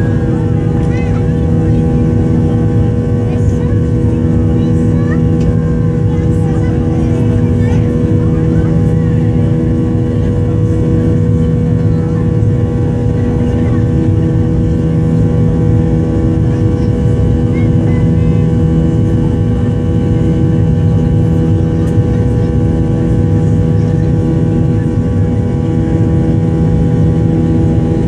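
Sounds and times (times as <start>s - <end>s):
jet engines humming in cabin: 0.0s - 28.0s.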